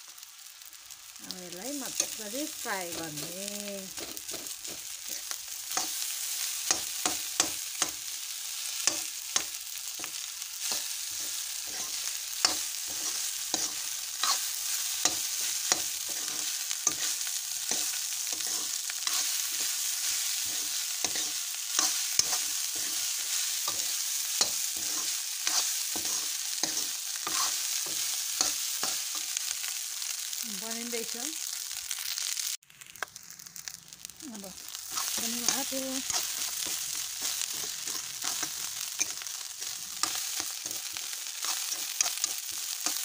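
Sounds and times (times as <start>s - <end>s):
rice sizzling in oil: 0.0s - 43.0s
metal spoon scraping a pan: 1.7s - 29.4s, 34.8s - 43.0s.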